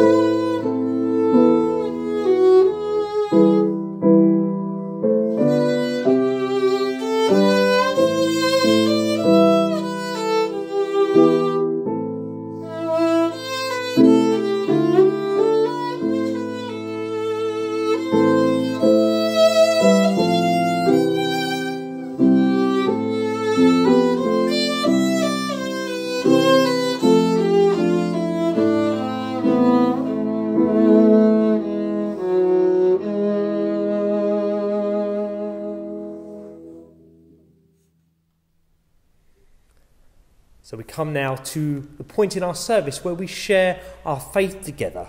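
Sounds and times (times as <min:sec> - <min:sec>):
upright piano: 0:00.0 - 0:37.5
violin slow melody: 0:00.0 - 0:37.6.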